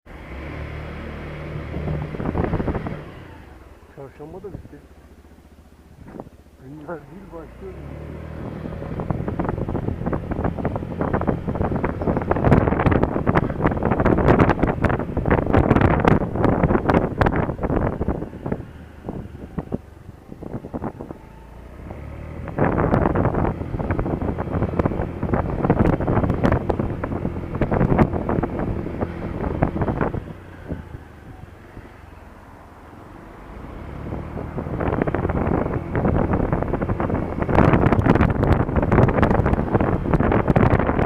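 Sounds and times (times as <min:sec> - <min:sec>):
wind buffeting microphone: 0:01.5 - 0:03.6, 0:05.7 - 0:41.0.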